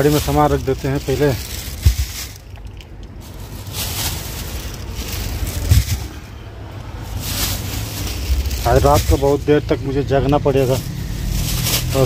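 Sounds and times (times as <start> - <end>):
plastic bags rustling: 0.0 - 12.0
steady low rumble: 0.0 - 12.0.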